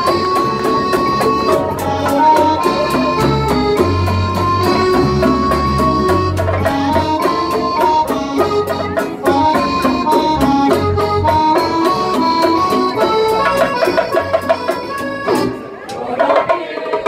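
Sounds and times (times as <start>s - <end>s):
bass line: 0.0s - 15.7s
sustained keyboard notes: 0.0s - 16.1s
strummed and plucked guitars: 0.0s - 16.8s.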